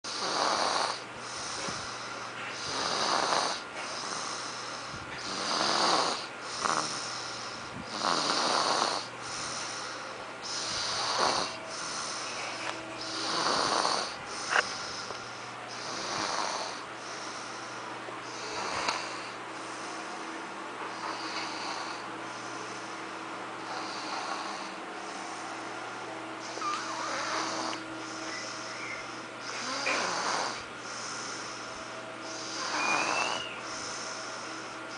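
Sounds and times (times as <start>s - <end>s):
toddler snoring: 0.1s - 20.2s, 20.9s - 23.0s, 23.6s - 25.6s, 26.4s - 34.9s.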